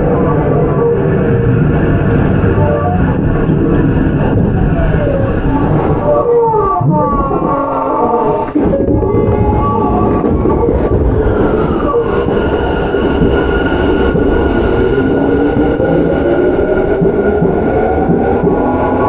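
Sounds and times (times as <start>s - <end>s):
train motors whining: 0.0s - 19.0s
wheels rumbling on rails: 0.0s - 19.0s.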